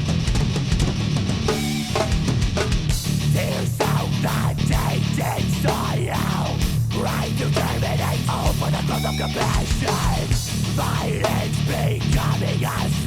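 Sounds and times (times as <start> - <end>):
distorted electric guitars: 0.0 - 13.0
drums: 0.0 - 13.0.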